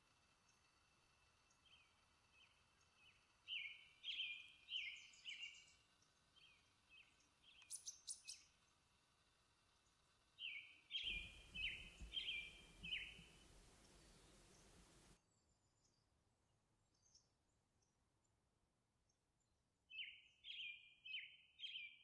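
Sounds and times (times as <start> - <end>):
songbird singing: 0.0 - 18.0, 19.9 - 22.0.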